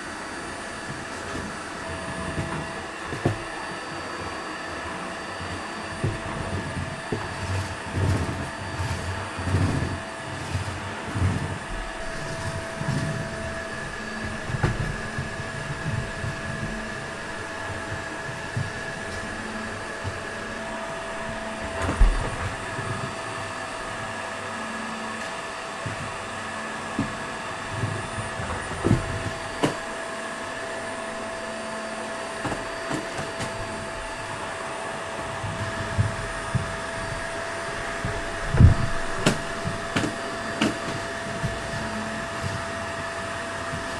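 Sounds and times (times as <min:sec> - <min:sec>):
vacuum cleaner motor whine: 0:00.0 - 0:43.9
vacuum cleaner bumps and thumps: 0:00.4 - 0:43.9.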